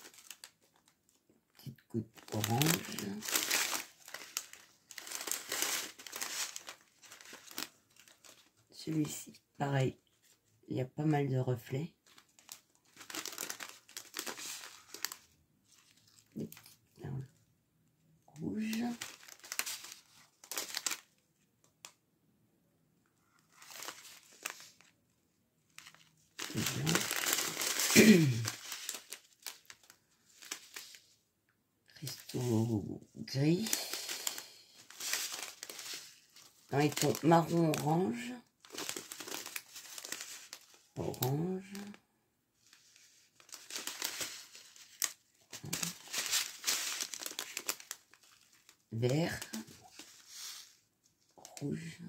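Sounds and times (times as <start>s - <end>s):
plastic bags crinkling: 0.0s - 9.2s, 12.0s - 16.8s, 18.4s - 21.2s, 23.2s - 25.0s, 25.7s - 31.2s, 32.0s - 42.0s, 42.6s - 51.6s.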